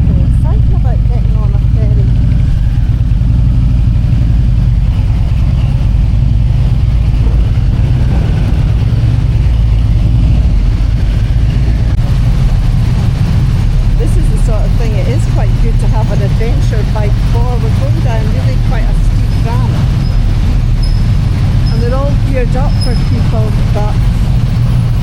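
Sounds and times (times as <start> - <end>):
motorcycle engine rumbling: 0.0 - 25.0.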